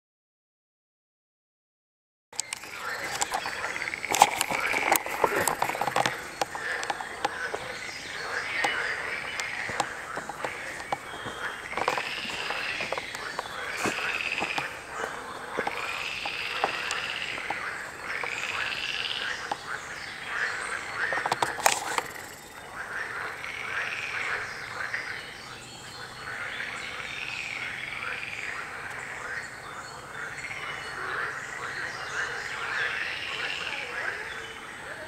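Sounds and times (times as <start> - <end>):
frogs croaking in chorus: 2.4 - 35.0.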